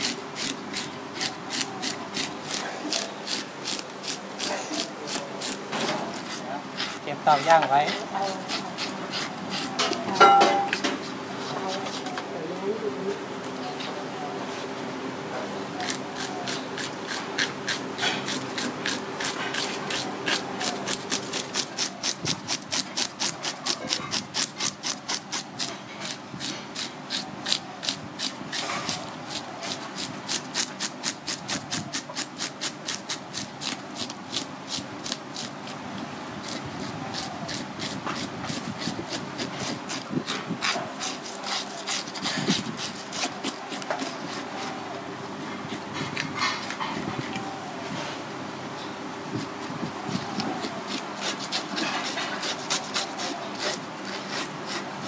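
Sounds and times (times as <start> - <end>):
knife scraping fish scales: 0.0 - 12.2, 15.8 - 35.8, 36.4 - 44.8, 50.2 - 55.0.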